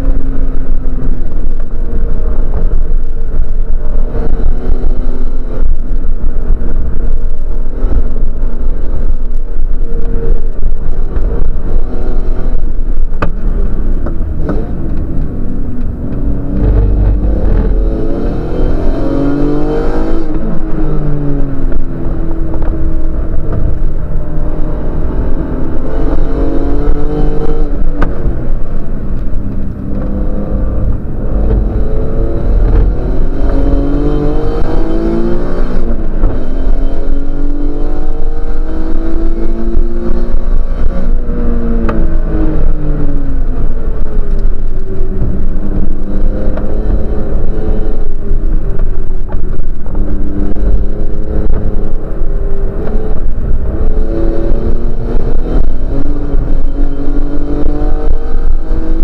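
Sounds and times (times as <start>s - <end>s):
low road rumble: 0.0s - 59.0s
race car engine revving: 0.0s - 59.0s.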